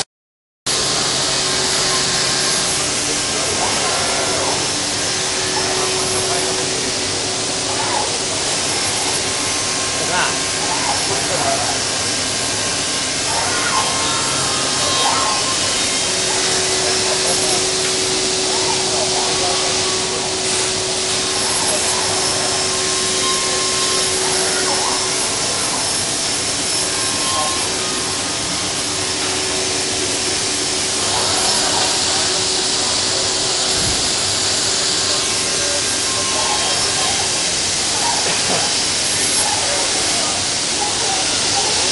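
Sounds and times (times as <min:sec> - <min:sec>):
cnc machine cutting wood: 0:00.7 - 0:41.9.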